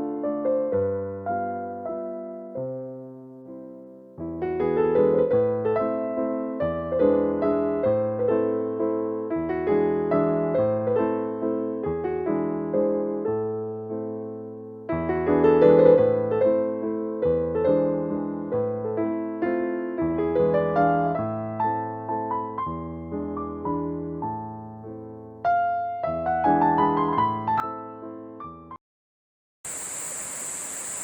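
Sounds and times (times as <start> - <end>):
piano music: 0.0 - 28.7.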